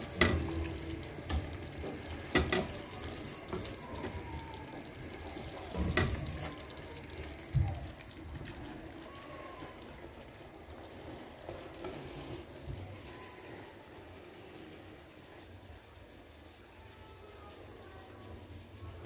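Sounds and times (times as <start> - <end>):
food sizzling in pans: 0.0 - 19.0.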